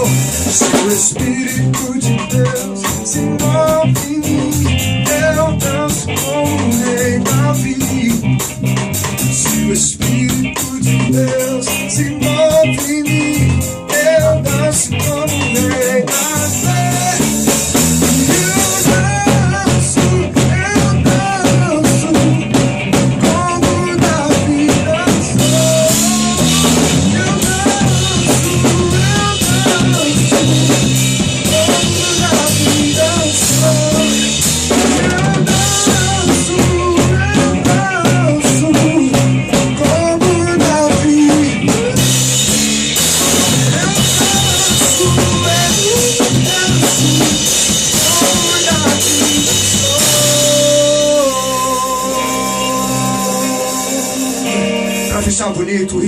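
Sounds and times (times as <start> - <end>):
drum kit with rimshots: 0.0 - 55.8
live band playing gospel: 0.0 - 56.0.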